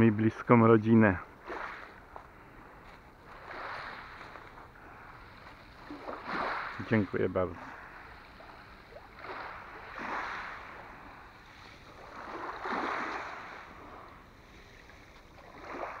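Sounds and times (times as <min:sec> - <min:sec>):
small waves lapping on pebbles: 0:01.2 - 0:16.0.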